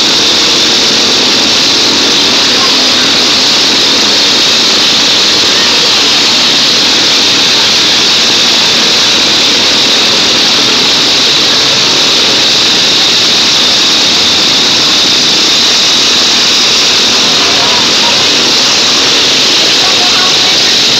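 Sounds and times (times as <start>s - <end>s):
lawn mower engines running: 0.0s - 20.9s.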